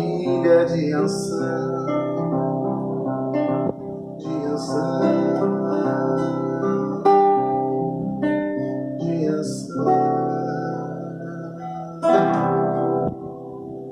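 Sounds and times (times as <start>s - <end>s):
acoustic guitar chords ringing: 0.0s - 13.9s.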